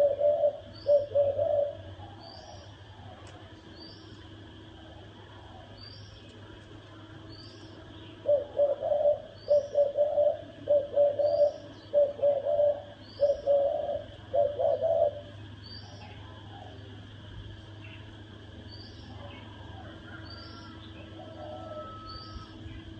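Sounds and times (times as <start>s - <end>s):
dove cooing: 0.0s - 17.2s, 18.9s - 22.9s.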